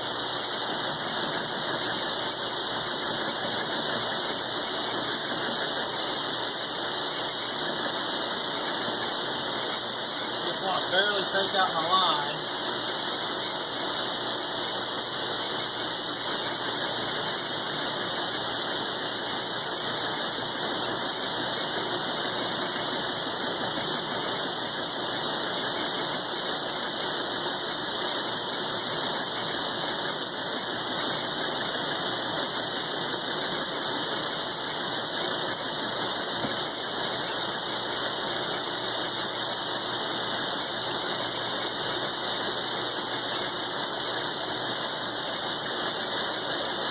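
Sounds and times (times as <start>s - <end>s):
milling machine cutting steel: 0.0s - 46.9s.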